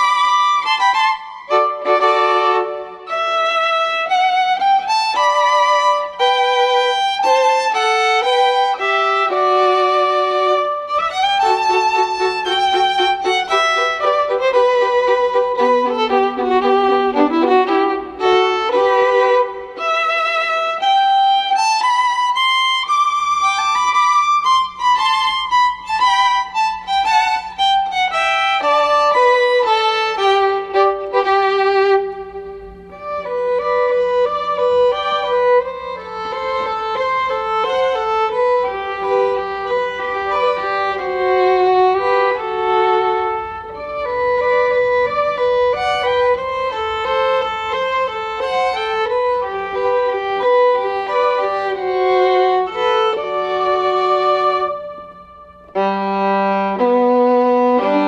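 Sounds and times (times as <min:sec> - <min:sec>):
slow solo melody with vibrato: 0:00.0 - 0:58.0.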